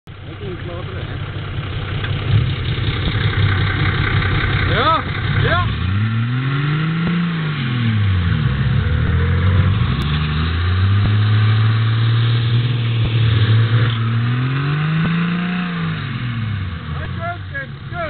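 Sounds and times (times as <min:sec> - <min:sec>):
car engine revving: 0:00.1 - 0:18.0.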